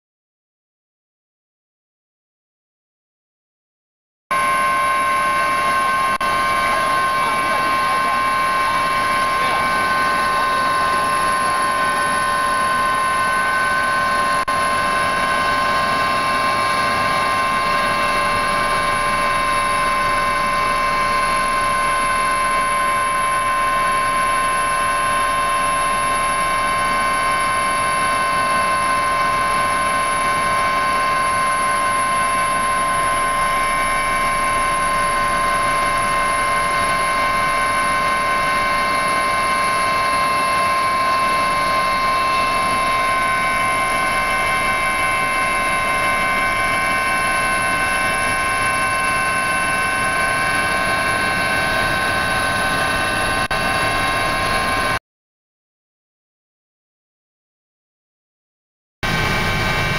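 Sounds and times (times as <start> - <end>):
helicopter engine and rotors drone: 4.3 - 55.0, 59.0 - 59.9
steady whine: 4.3 - 55.0, 59.0 - 59.9.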